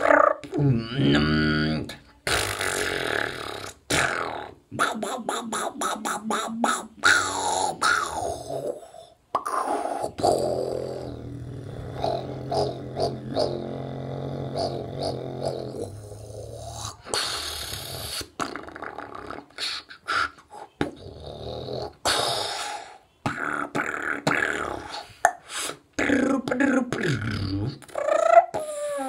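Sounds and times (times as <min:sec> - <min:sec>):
person beatboxing: 0:00.0 - 0:21.1, 0:21.8 - 0:29.0.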